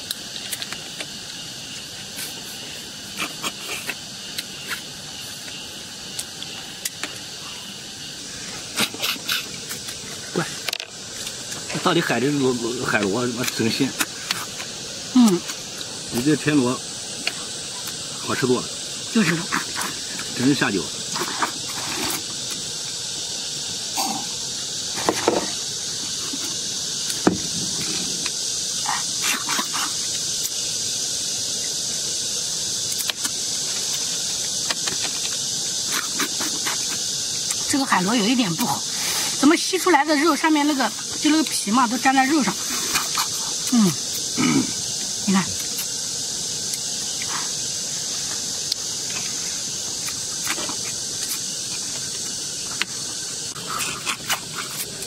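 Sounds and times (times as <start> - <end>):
high insect drone: 0.0 - 55.0
people sucking and slurping: 0.0 - 55.0
steady high-pitched hiss: 0.0 - 55.0.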